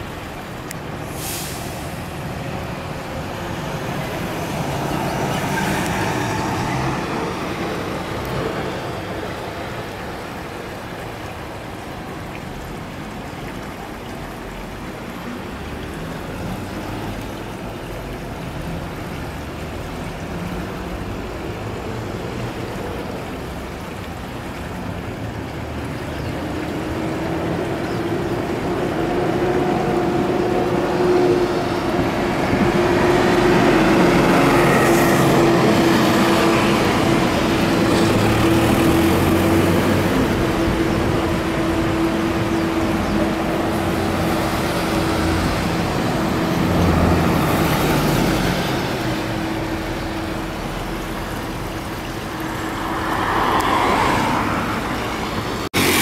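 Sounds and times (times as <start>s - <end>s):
hum of passing vehicles: 0.0s - 56.0s.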